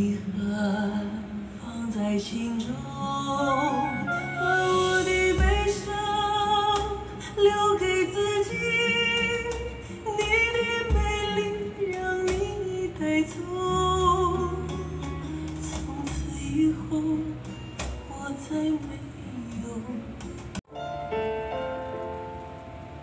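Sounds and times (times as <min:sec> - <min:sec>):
woman singing a slow ballad: 0:00.0 - 0:20.6
soft instrumental accompaniment: 0:02.2 - 0:23.0.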